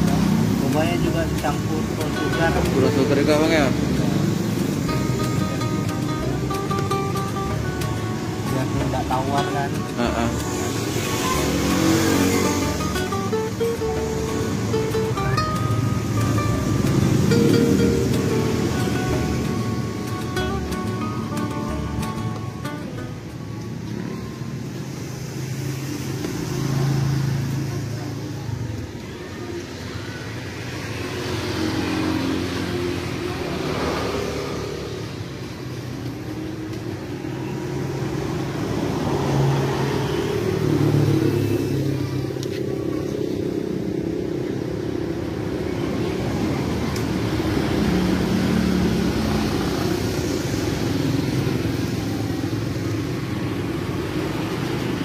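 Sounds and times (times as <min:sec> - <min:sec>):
passing road traffic: 0:00.0 - 0:55.0.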